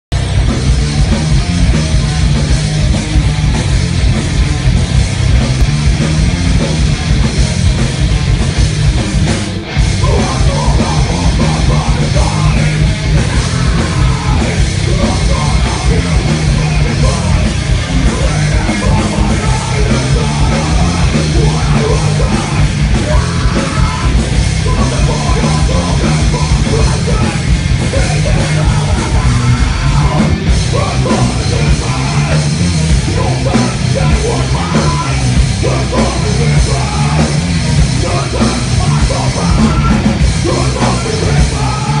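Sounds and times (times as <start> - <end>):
heavy metal band playing: 0.1 - 42.0.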